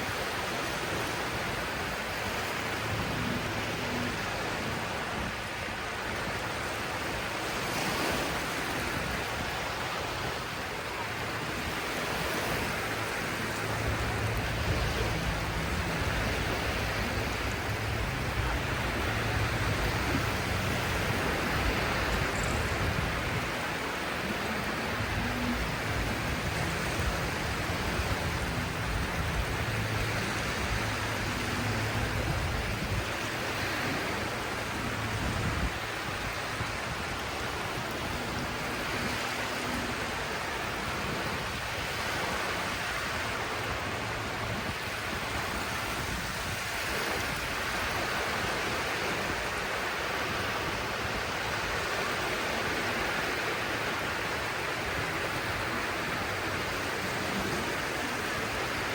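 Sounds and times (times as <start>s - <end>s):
sea waves washing on shore: 0.0s - 58.9s.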